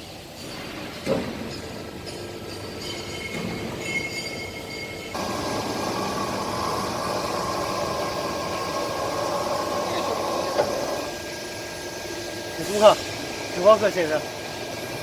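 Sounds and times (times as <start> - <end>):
machinery humming and droning: 0.0 - 15.0.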